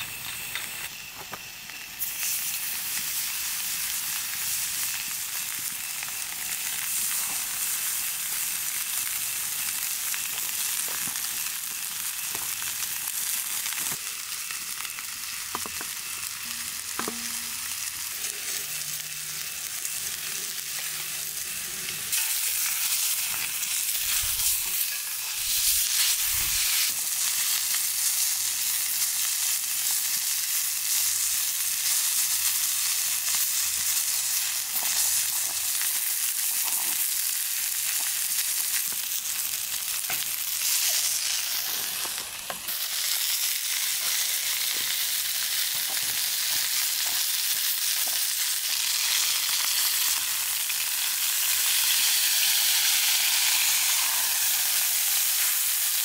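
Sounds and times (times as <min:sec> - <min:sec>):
meat sizzling in a skillet: 0:00.0 - 0:56.0
vegetables frying in a pan: 0:00.0 - 0:56.0.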